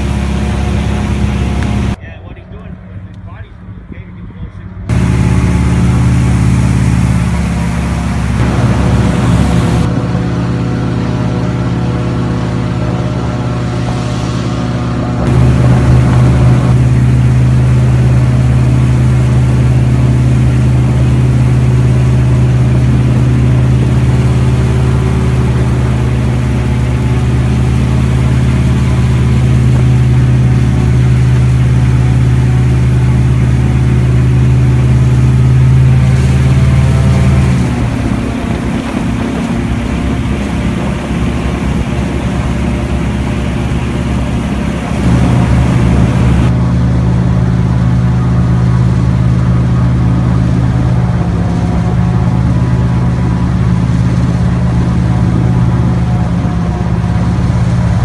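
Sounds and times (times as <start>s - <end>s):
airboat engine drone: 0.0s - 58.0s.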